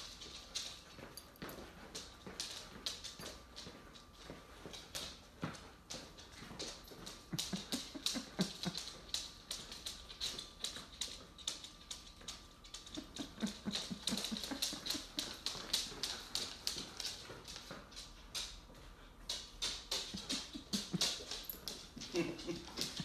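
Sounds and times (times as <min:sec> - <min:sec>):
dog claws clicking on hardwood floor: 0:00.0 - 0:18.7.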